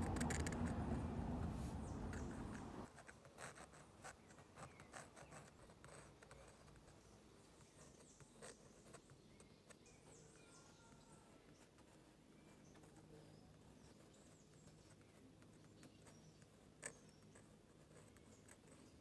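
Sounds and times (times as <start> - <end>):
pen nib scratching on paper: 0.0 - 19.0.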